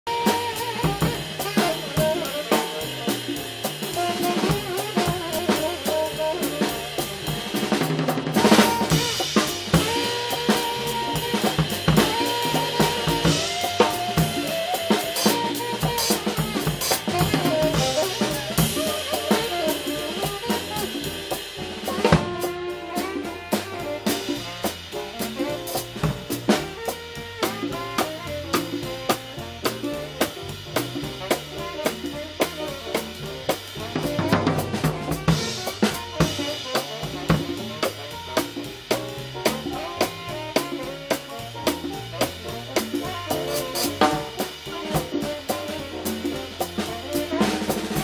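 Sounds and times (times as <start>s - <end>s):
drum kit: 0.0s - 48.0s
jazz band playing: 0.0s - 48.0s
loud drum accent: 0.1s - 48.0s.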